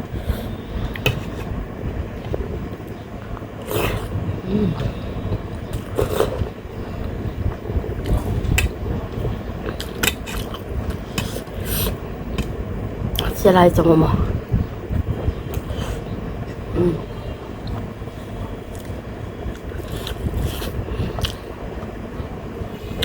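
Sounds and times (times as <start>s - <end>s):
electric fan rumble: 0.0s - 23.0s
noisy bursts: 0.0s - 23.0s.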